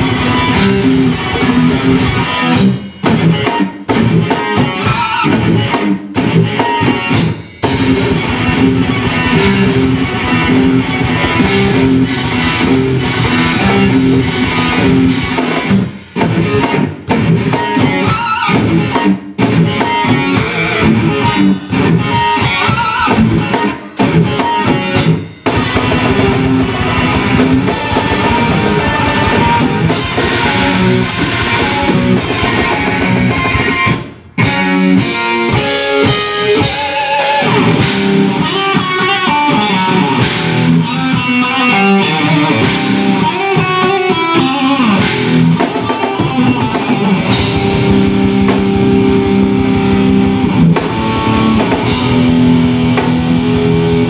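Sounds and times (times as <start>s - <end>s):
distorted electric guitar riffing: 0.0s - 54.0s.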